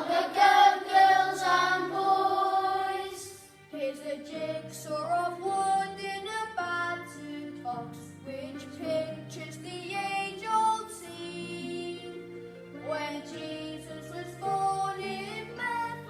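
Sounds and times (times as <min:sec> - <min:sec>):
children singing slow song: 0:00.0 - 0:16.0
musical accompaniment: 0:00.0 - 0:16.0.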